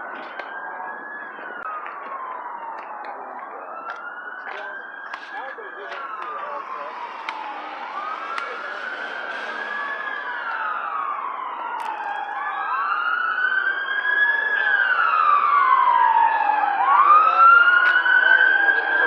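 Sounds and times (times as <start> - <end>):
emergency sirens wailing: 0.0 - 19.0.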